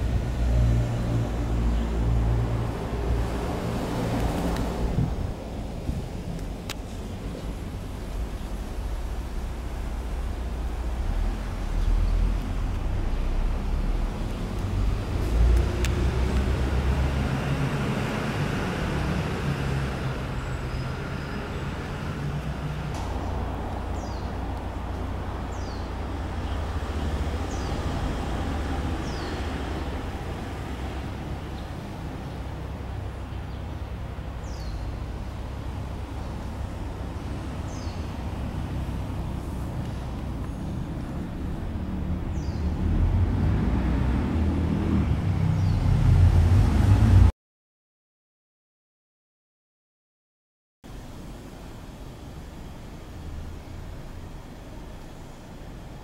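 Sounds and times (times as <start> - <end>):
distant road traffic rumble: 0.0 - 47.3, 50.9 - 56.0.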